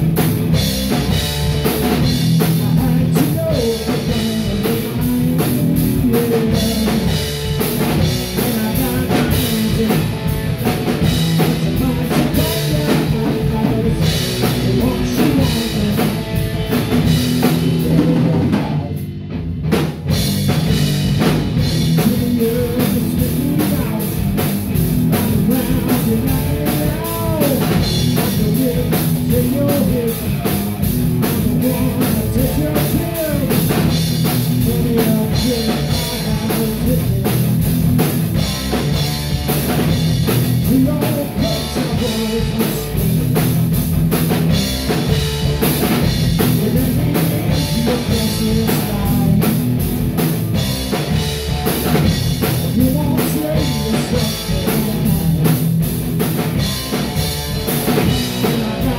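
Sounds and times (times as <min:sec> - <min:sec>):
hard rock band playing: 0:00.0 - 0:58.9.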